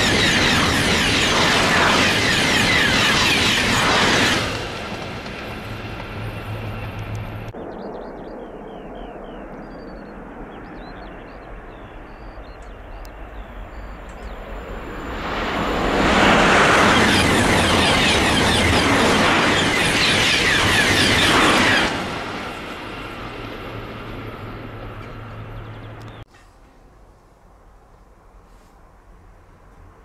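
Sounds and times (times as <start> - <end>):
high-speed train passing: 0.0 - 8.4, 10.2 - 30.0.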